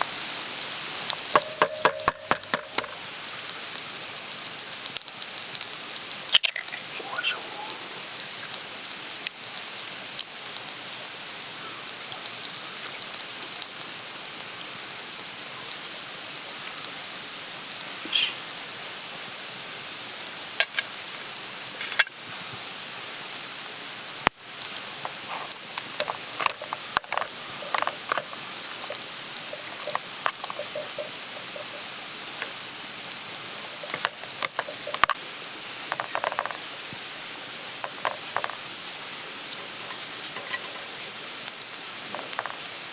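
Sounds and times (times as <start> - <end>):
campfire crackling: 0.0 - 42.9.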